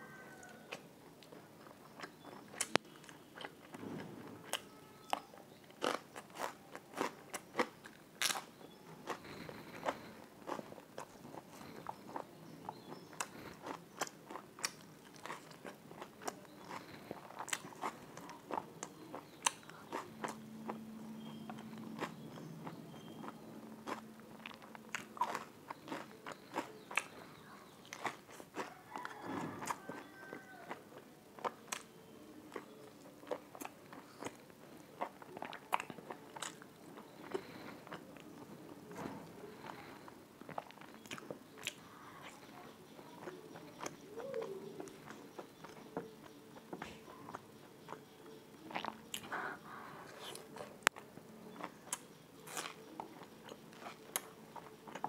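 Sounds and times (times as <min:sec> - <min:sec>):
person chewing food: 0:00.0 - 0:55.0
crunchy bites: 0:01.9 - 0:55.0.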